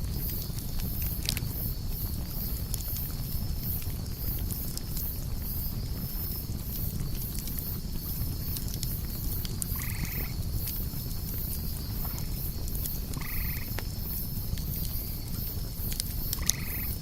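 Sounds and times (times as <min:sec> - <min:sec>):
campfire crackling: 0:00.0 - 0:17.0
night insects chorus: 0:00.0 - 0:17.0.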